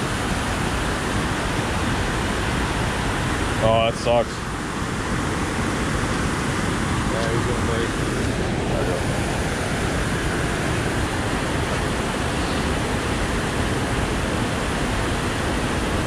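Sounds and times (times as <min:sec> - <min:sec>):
water rushing through a lock: 0:00.0 - 0:16.0.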